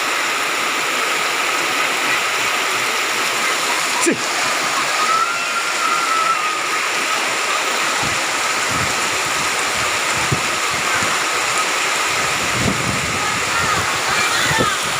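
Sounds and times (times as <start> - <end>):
floodwater rushing: 0.0 - 14.9
heavy rain pouring: 0.0 - 14.9.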